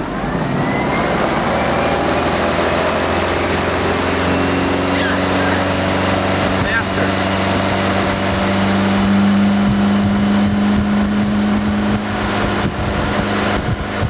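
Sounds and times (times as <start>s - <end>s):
motorboat engine drone: 0.0s - 14.0s.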